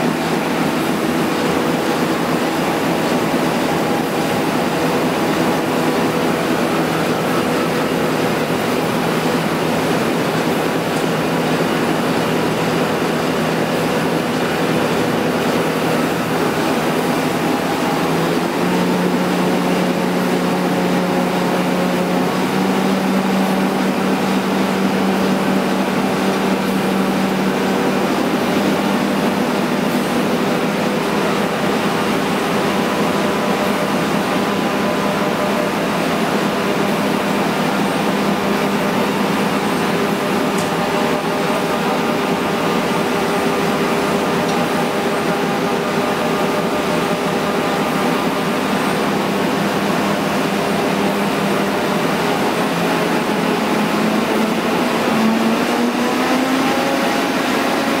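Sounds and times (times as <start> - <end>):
printing press mechanical hum: 0.0 - 58.0.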